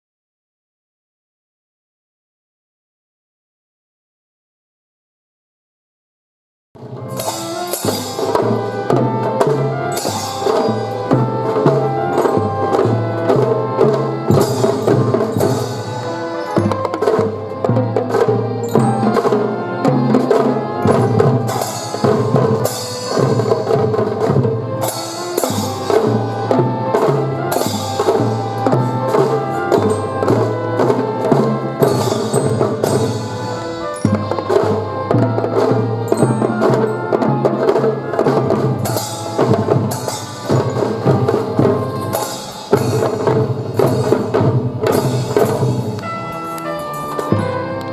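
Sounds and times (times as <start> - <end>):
drum and fife band marching tune: 6.8 - 47.9.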